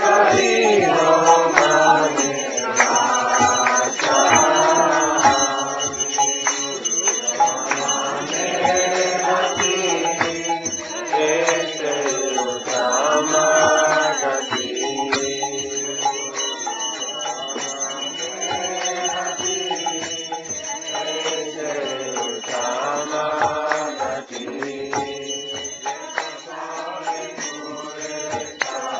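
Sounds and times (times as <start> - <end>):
percussion striking in time: 0.0 - 28.9
voices chanting a melody: 0.0 - 28.9.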